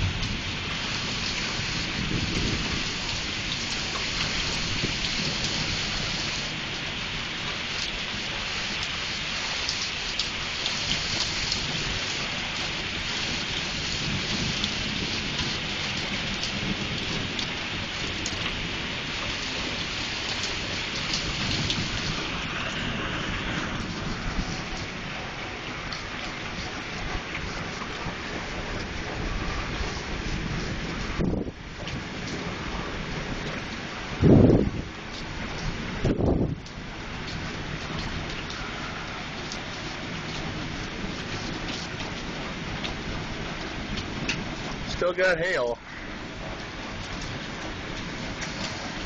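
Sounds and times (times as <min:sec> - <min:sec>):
heavy rain hissing: 0:00.0 - 0:49.0.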